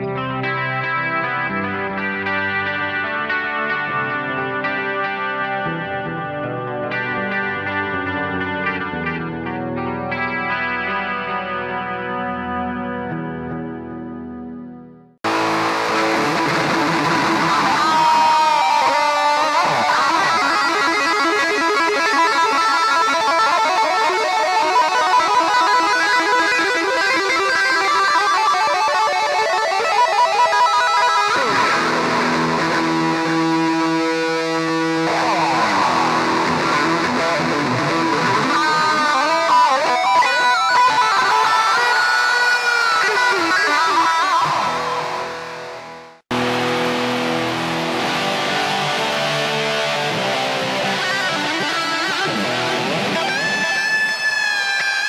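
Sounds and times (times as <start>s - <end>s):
electric guitar with string bends: 0.0s - 55.0s.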